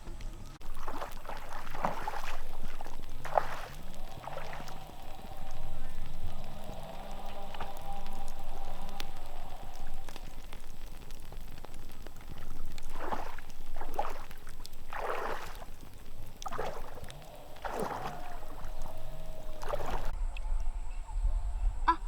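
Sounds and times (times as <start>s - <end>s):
steady hiss: 0.0s - 20.2s
water sloshing and splashing: 0.0s - 20.2s.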